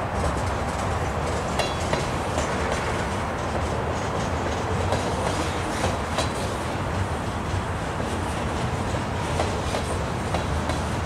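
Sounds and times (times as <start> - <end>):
train wheels rumbling on rail: 0.0 - 11.0
wheels clicking over rail joints: 0.1 - 11.0.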